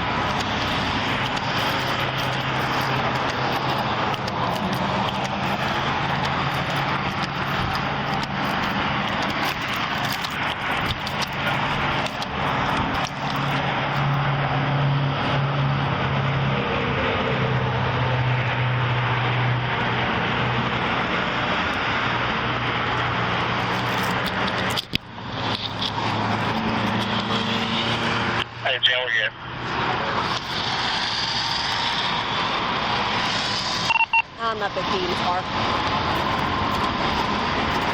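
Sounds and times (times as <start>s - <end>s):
vehicle engine drone and road noise: 0.0s - 37.9s.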